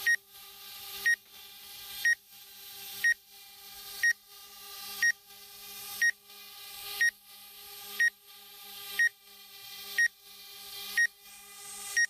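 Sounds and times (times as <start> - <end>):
drone humming in flight: 0.0 - 12.0.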